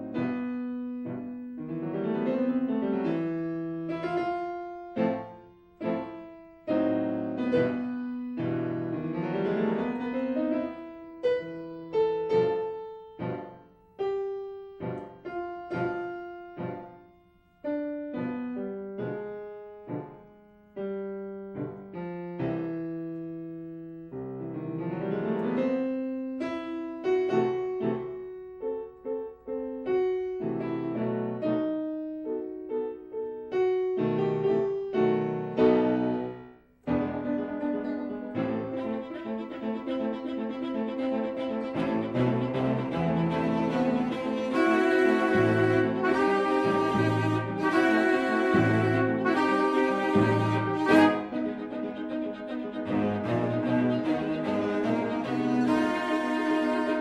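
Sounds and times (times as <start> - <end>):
solo piano music: 0.0 - 57.0.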